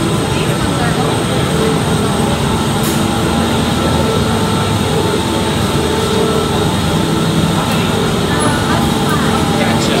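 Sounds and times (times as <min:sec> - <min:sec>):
gondola machinery rumbling: 0:00.0 - 0:10.0.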